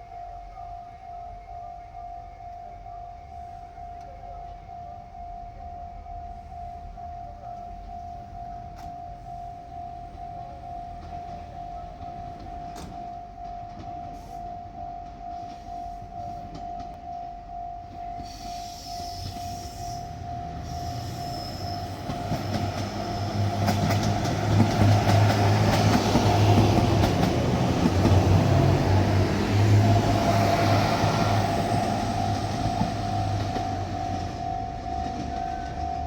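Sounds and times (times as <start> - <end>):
diesel train engine drone: 0.0 - 36.0
level crossing alarm pulsing: 0.0 - 36.0
train wheel noise: 5.8 - 36.0.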